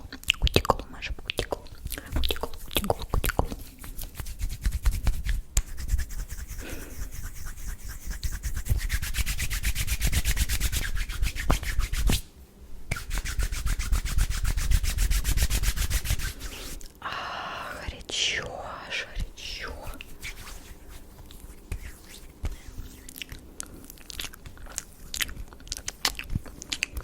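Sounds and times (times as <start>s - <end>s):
hands rubbing together: 1.8s - 12.3s, 12.9s - 16.9s, 19.2s - 26.9s.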